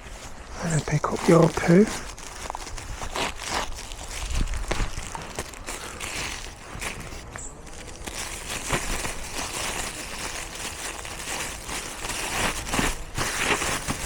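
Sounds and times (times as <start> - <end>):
footsteps rustling on leafy path: 0.0 - 14.0.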